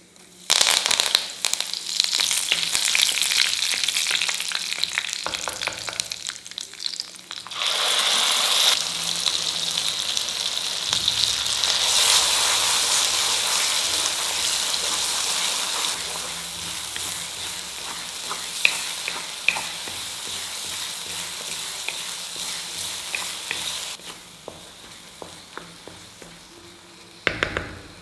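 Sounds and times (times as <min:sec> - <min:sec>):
chutney sizzling in hot oil: 0:00.0 - 0:28.0.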